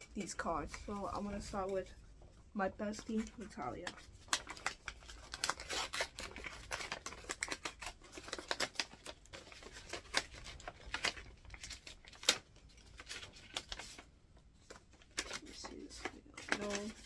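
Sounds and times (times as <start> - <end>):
paper rustling and crackling: 0.0 - 17.0.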